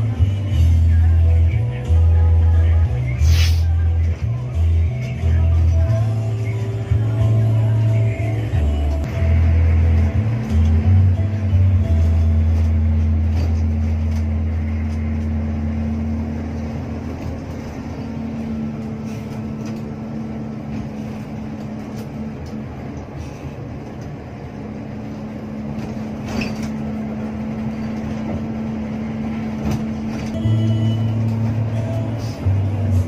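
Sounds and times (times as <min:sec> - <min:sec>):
bus diesel engine drone: 0:00.0 - 0:33.0
road noise: 0:00.0 - 0:33.0.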